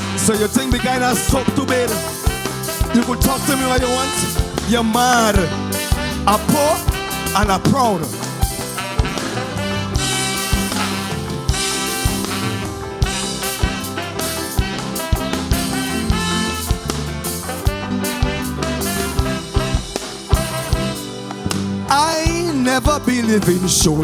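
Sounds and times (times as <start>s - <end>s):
calypso band playing: 0.0s - 24.0s.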